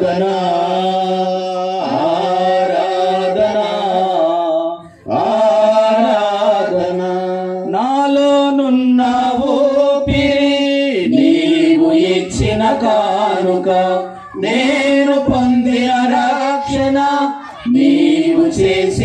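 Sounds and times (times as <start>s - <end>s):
man singing a hymn: 0.0s - 19.0s.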